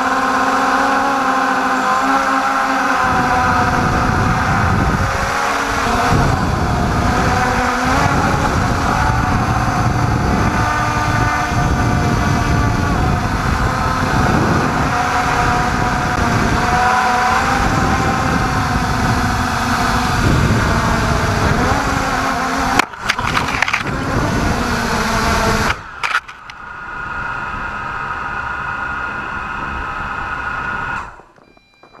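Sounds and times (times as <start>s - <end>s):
drone motors buzzing: 0.0s - 32.0s.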